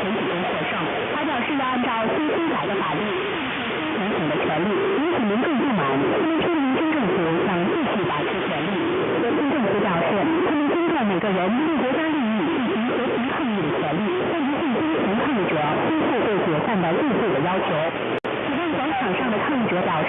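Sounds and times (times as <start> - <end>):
radio static: 0.0 - 20.0.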